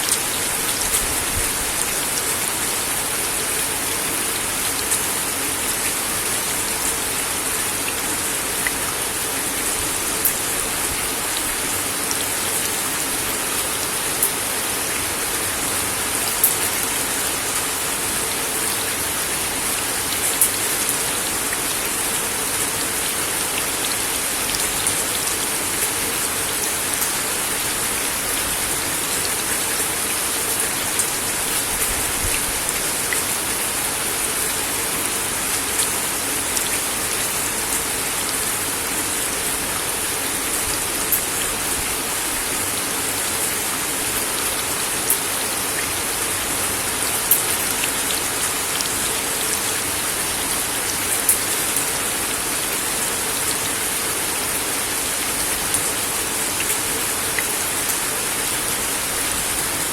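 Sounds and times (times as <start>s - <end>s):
rain on a wooden deck: 0.0s - 59.9s.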